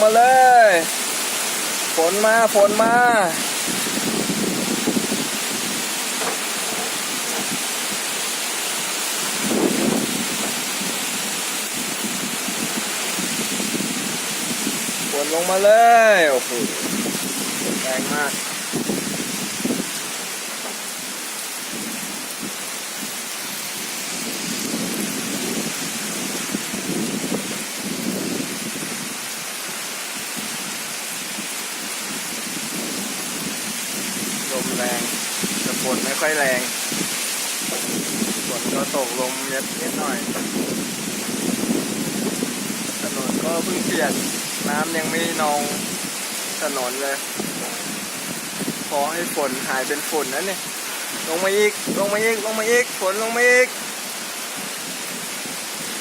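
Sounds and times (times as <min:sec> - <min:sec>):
gusting wind: 0:00.0 - 0:56.0
heavy rain pouring: 0:00.0 - 0:56.0.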